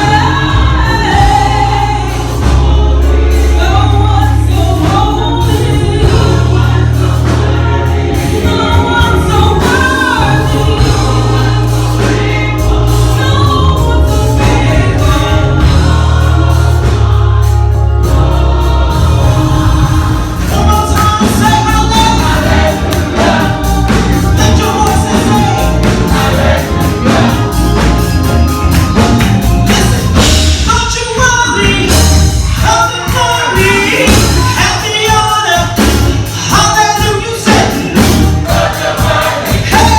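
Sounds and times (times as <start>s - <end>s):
choir singing: 0.0s - 30.7s, 31.5s - 36.6s, 37.4s - 39.9s
band with bass and beat: 0.0s - 39.9s.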